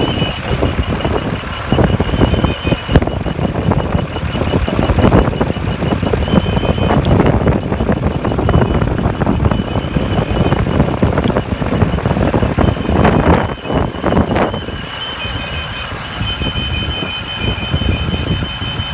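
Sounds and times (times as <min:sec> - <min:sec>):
high-pitched whistle: 0:00.0 - 0:05.4, 0:06.0 - 0:18.9
engine running: 0:00.0 - 0:18.9.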